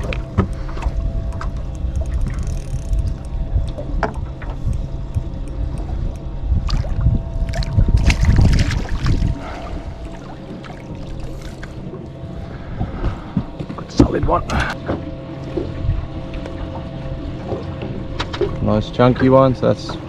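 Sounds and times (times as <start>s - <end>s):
low rumble: 0.0s - 18.6s
faint hum: 0.0s - 20.0s.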